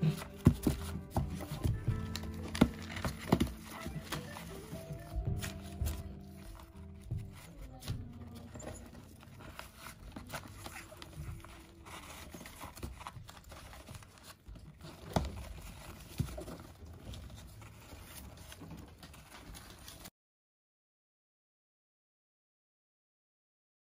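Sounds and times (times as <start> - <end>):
parrot chicks rustling and clicking: 0.0 - 20.1.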